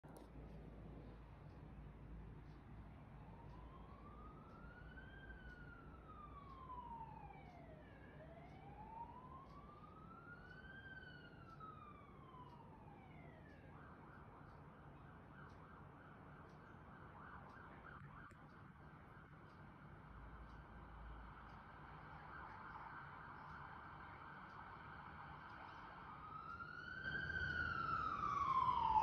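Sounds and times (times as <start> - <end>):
faint emergency siren: 3.0 - 29.0.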